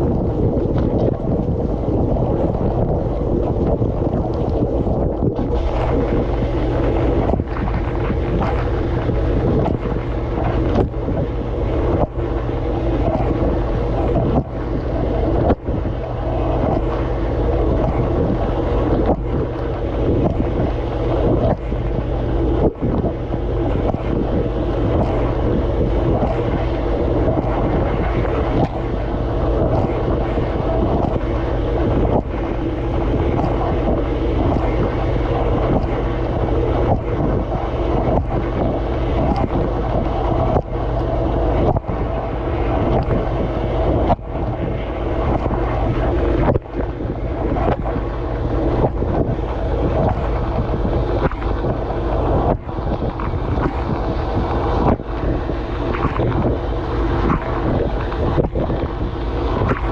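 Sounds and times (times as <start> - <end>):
dishwasher pump humming: 0.0 - 59.9.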